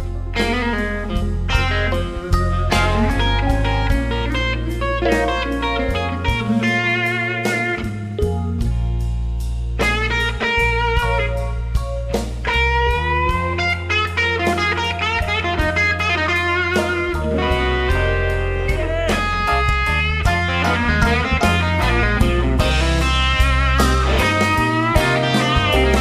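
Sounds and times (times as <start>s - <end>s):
electric guitar solo: 0.0s - 9.0s, 9.8s - 26.0s
live blues band: 0.0s - 26.0s.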